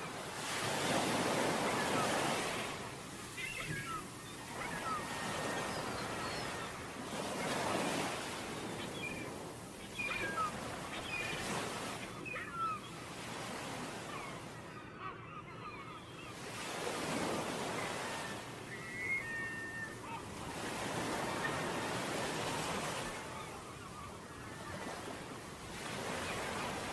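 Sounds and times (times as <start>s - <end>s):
ocean waves on a beach: 0.0s - 26.9s.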